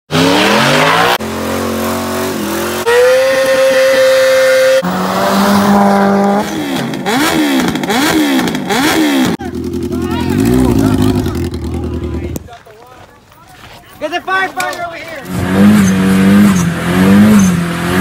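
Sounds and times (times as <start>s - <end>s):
car engine at high revs: 0.1s - 12.0s, 15.3s - 18.0s
engine revving up and down: 0.1s - 12.4s, 15.3s - 18.0s.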